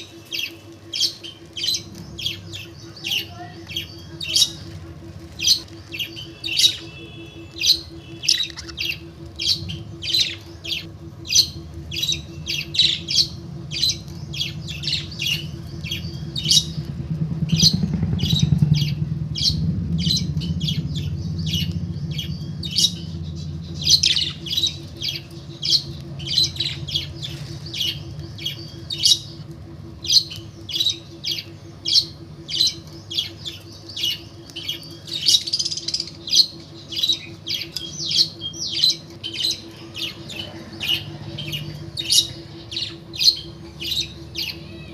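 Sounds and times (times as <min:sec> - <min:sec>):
bird squawking: 0:00.0 - 0:44.9
steady low hum: 0:00.0 - 0:44.9.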